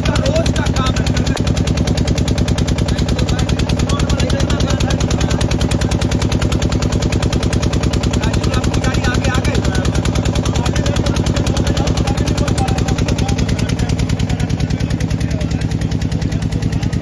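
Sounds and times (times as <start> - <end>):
motorboat engine puttering: 0.0 - 17.0.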